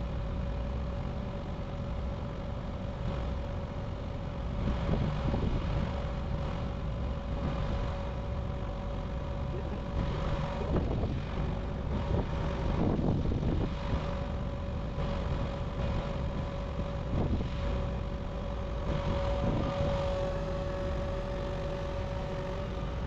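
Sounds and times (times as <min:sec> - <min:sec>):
engine running with whine: 0:00.0 - 0:23.0.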